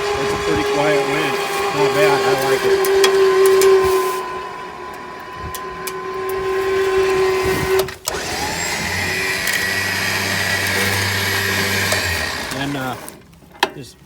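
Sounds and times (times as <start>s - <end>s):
electric winch motor whining: 0.0s - 13.3s.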